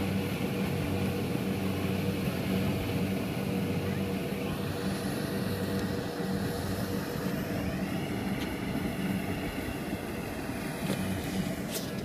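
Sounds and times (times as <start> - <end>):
combine harvester engine droning: 0.0 - 12.0.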